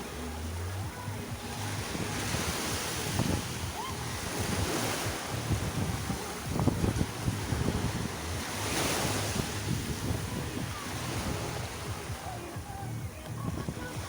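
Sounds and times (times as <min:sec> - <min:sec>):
sea surf washing onto shore: 0:00.0 - 0:14.0
wind buffeting microphone: 0:00.0 - 0:14.0.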